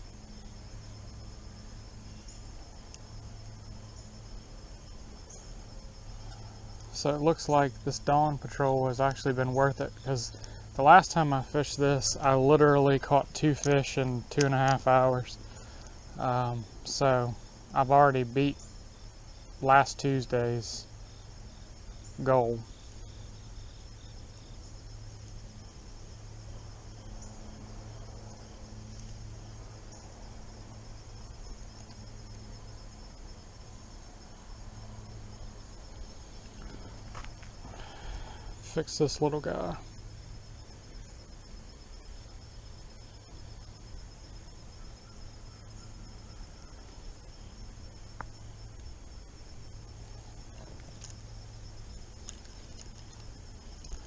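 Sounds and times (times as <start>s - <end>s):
background hiss: 0.0s - 54.0s
insects chirring: 0.0s - 54.0s
low steady hum: 0.0s - 54.0s.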